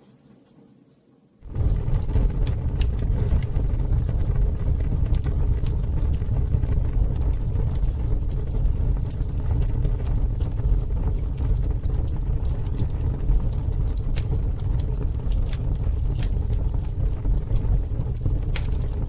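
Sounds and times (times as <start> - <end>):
burning wood crackling and popping: 1.4 - 19.0
campfire low rumble: 1.4 - 19.0.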